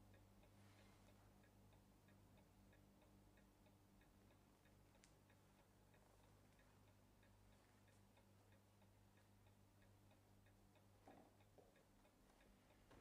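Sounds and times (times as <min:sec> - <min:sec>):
clock ticking faintly: 0:00.0 - 0:13.0.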